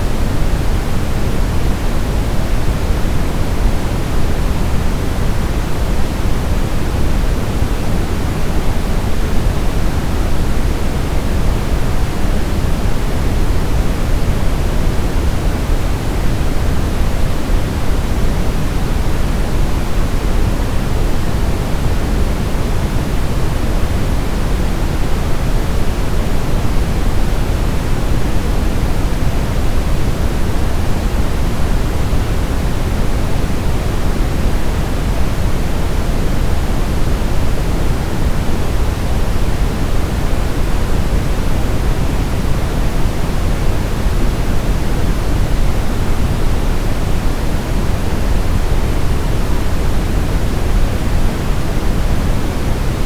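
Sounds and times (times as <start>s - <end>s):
steady synthetic pink noise: 0.0s - 53.0s.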